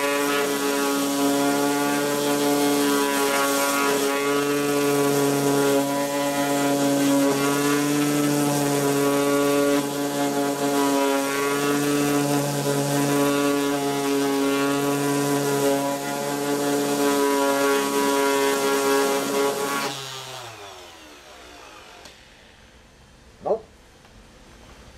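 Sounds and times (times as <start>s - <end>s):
orbital sander on boat hull: 0.0s - 22.9s.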